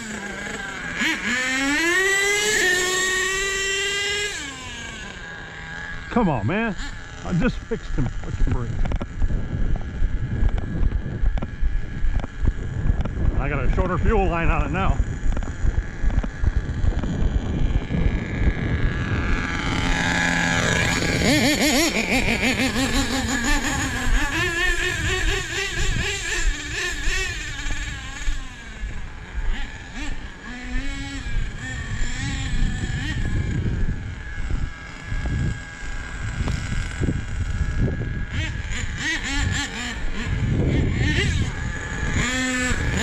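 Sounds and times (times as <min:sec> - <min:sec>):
small nitro engine revving: 0:00.0 - 0:43.0.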